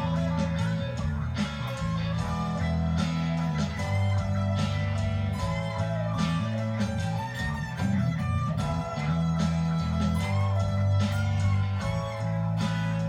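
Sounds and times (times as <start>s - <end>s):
electric guitar lead bending notes: 0.0s - 13.0s
steady drum beat: 0.0s - 13.0s
sustained bass notes: 0.0s - 13.0s.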